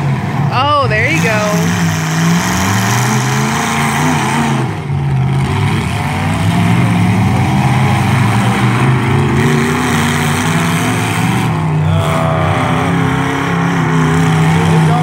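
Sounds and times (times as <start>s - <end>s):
truck engines revving hard: 0.0s - 15.0s.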